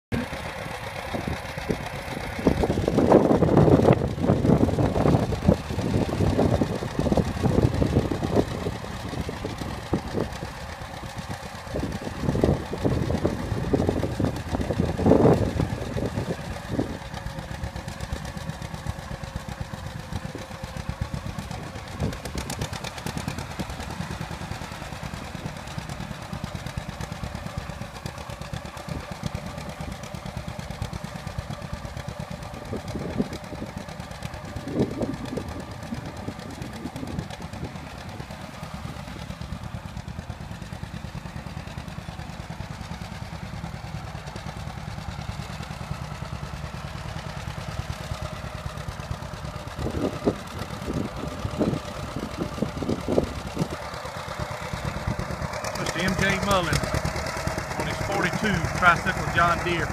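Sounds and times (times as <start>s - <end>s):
tractor engine running under load: 0.1s - 59.9s.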